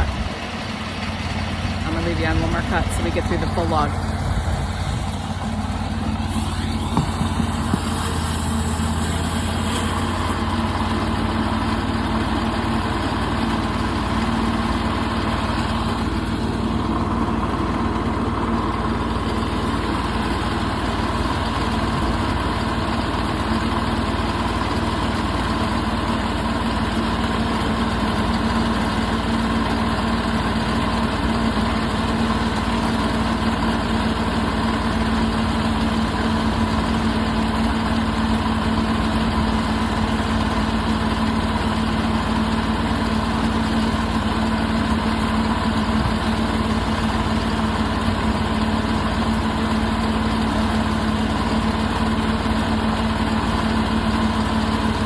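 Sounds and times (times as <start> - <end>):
portable sawmill cutting log: 0.0 - 55.0.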